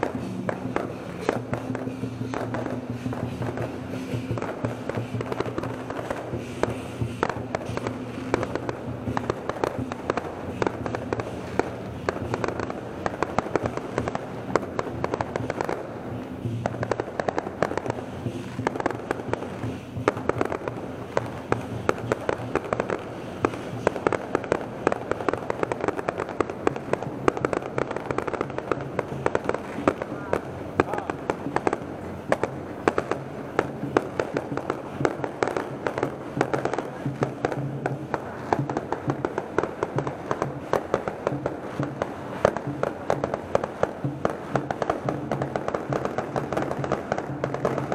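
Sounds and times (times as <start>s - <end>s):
firecrackers crackling: 0.0s - 47.9s.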